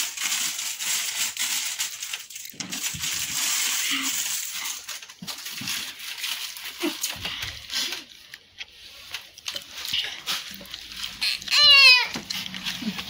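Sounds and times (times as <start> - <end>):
plastic wrappers rustling: 0.0 - 13.0.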